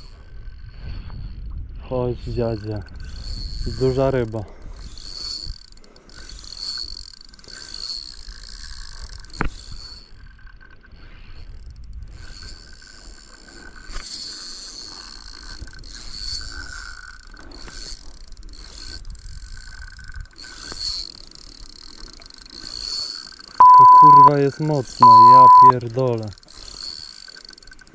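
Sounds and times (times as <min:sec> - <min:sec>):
fishing reel whirring: 0:00.0 - 0:27.9.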